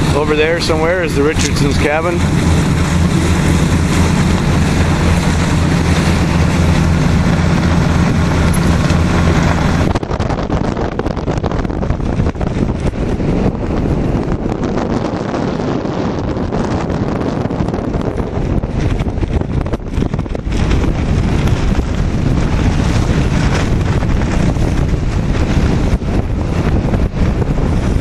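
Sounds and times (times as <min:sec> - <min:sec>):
boat engine humming: 0:00.0 - 0:28.0
wind buffeting microphone: 0:00.0 - 0:28.0.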